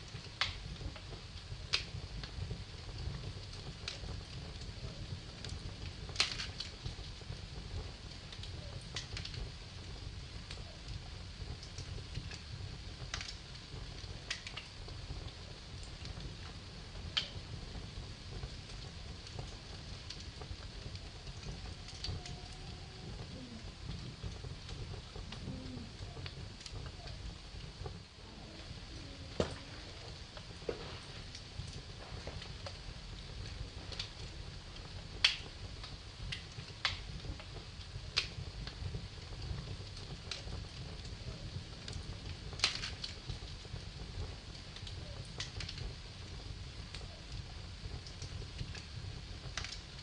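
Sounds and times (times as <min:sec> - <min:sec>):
fire crackles and pops: 0:00.0 - 0:50.0
fire low rumble: 0:00.0 - 0:50.0.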